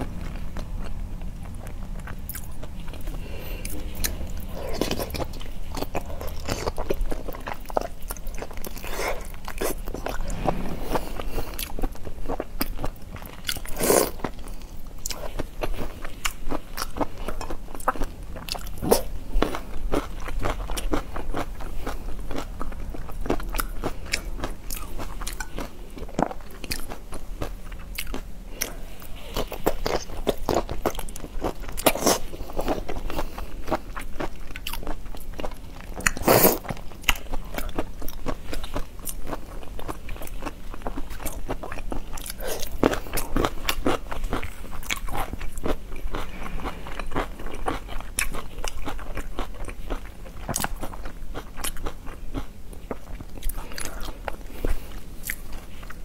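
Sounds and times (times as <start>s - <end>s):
crunching and chewing shrimp: 0.0s - 56.0s.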